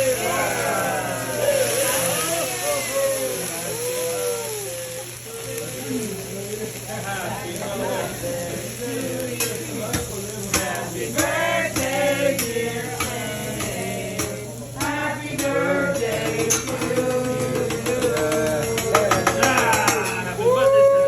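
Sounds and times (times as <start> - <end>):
voices singing with music: 0.0 - 21.0.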